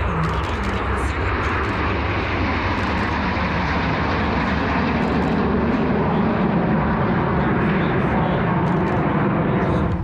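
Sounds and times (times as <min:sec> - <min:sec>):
jets flying overhead: 0:00.0 - 0:10.0.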